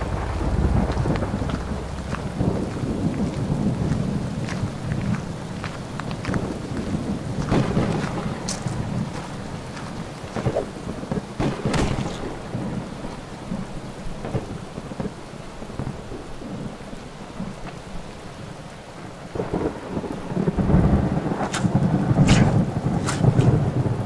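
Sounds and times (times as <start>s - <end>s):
rolling thunder: 0.0s - 16.8s, 19.3s - 24.0s
heavy rain: 0.0s - 24.0s.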